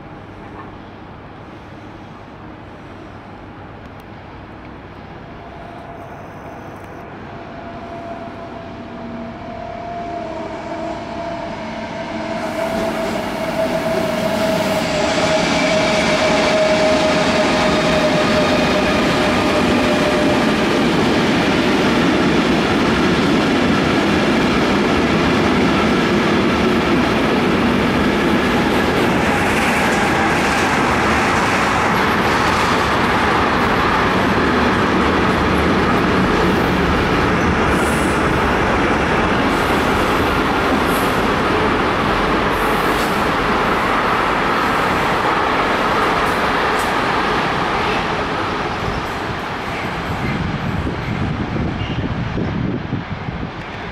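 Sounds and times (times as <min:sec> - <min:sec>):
train wheels rumbling on rails: 0:00.0 - 0:53.9
electric locomotive whine: 0:04.6 - 0:53.9.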